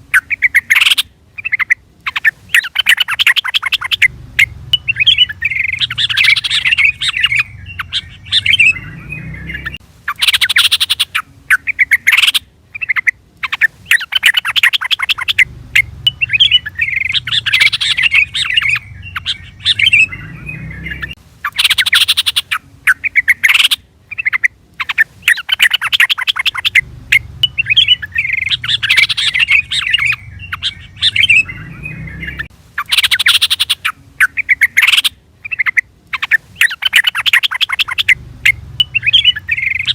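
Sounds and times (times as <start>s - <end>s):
bulbul calling: 0.0s - 39.9s.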